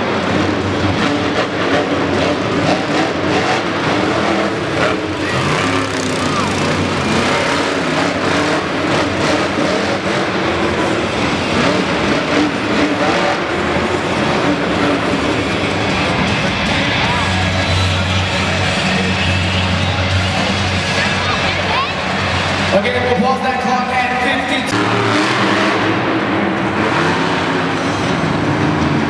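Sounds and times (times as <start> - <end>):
monster truck engines revving: 0.0 - 29.0.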